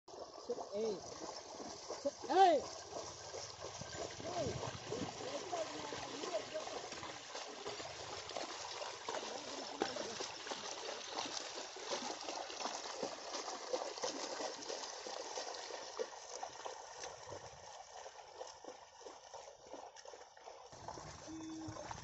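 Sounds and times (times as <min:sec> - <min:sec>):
muddy water sloshing and splashing: 0:00.1 - 0:22.0.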